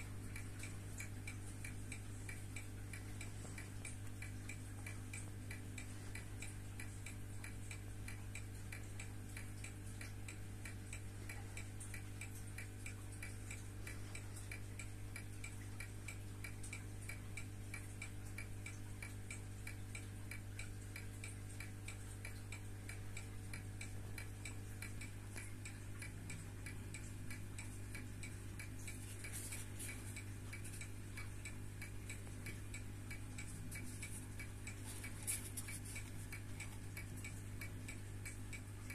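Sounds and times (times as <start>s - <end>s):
wristwatch ticking fast: 0.0s - 38.9s.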